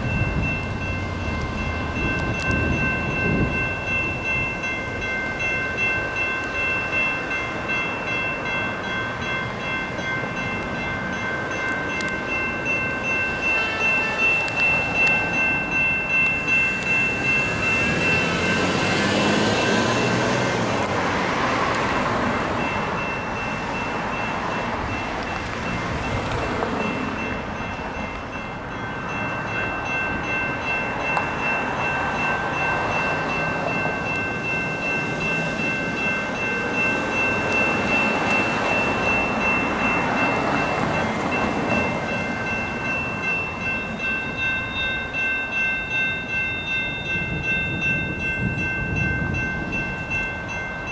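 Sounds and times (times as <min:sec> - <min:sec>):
railroad crossing bell ringing: 0:00.0 - 0:50.9
train rumbling past: 0:00.0 - 0:50.9.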